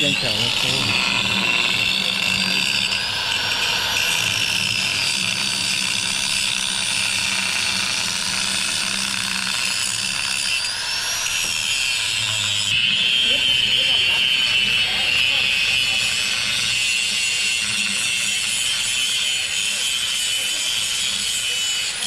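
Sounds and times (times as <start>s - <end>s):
angle grinder grinding steel: 0.0s - 22.0s.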